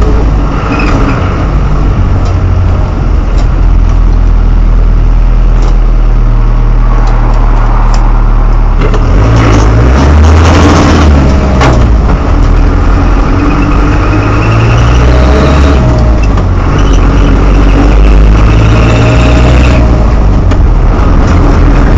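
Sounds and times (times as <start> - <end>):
engine rumble: 0.0 - 21.9.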